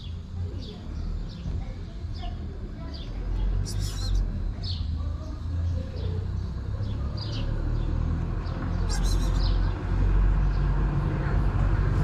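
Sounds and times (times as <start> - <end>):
small birds chirping: 0.0 - 11.3
low outdoor rumble: 0.0 - 12.0.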